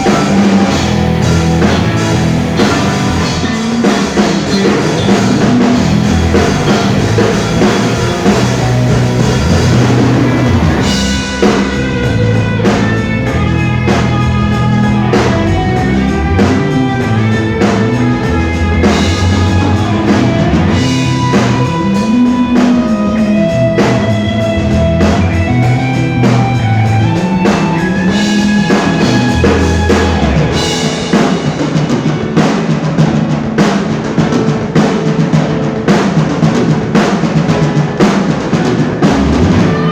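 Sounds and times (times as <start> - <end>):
bass line: 0.0 - 31.1, 39.0 - 39.9
drum kit: 0.0 - 39.9
electric guitar: 0.0 - 39.9
rock band playing live: 0.0 - 39.9.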